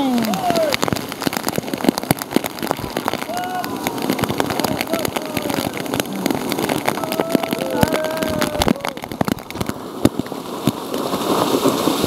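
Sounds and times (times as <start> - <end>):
water splashing on camera housing: 0.0 - 12.0
whitewater rushing: 0.0 - 12.0.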